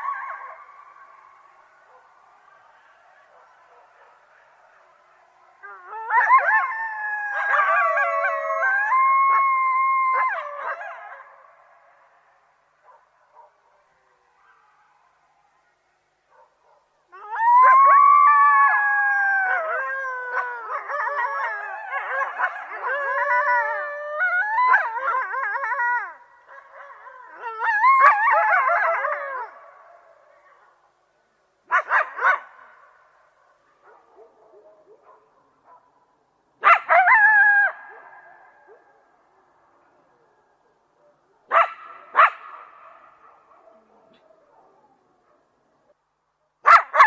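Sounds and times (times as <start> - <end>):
coyotes howling and yipping: 0.0 - 31.0, 31.7 - 45.9.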